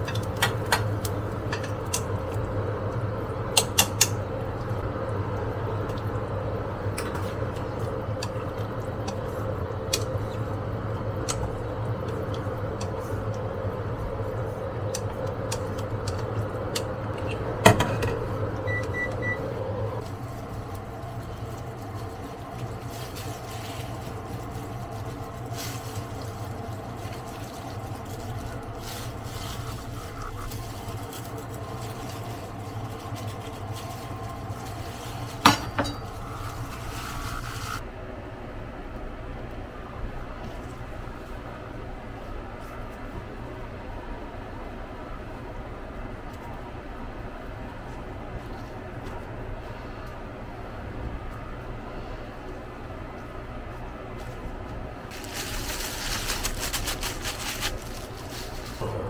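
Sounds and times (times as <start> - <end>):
kitchen appliance humming: 0.0 - 38.0, 39.0 - 59.0.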